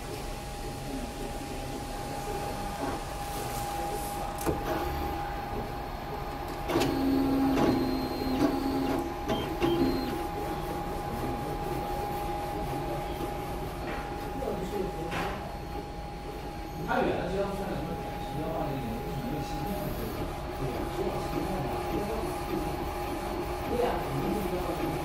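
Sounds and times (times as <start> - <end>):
print-head carriage motors whirring: 0.0 - 25.0.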